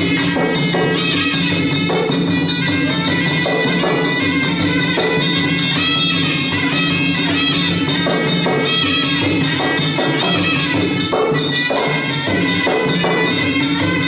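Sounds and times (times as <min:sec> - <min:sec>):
reedy wind instrument melody: 0:00.0 - 0:14.0
small cymbals: 0:00.0 - 0:14.0
steady drums: 0:00.0 - 0:14.0.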